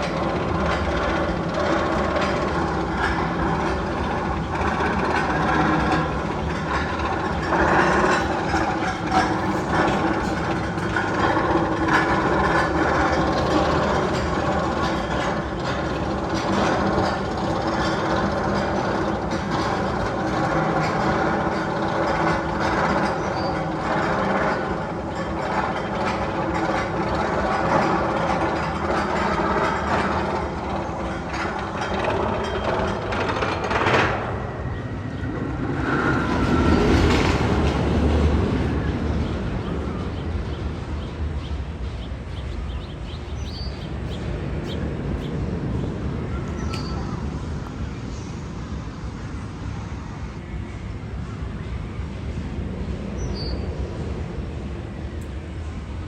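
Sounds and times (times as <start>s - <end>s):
roller coaster train rumbling: 0.0s - 56.0s.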